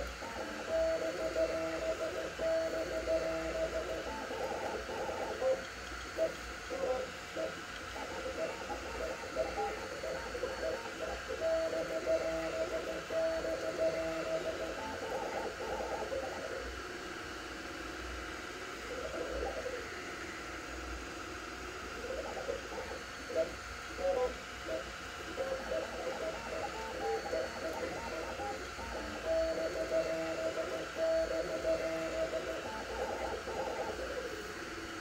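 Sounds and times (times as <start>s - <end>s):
stepper motors whining: 0.0s - 35.0s.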